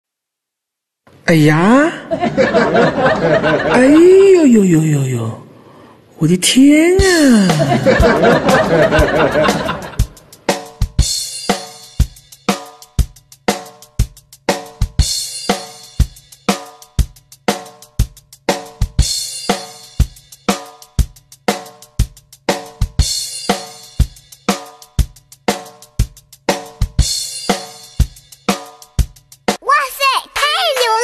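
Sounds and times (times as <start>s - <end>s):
drum-kit beat: 2.4s - 4.6s, 6.8s - 31.0s.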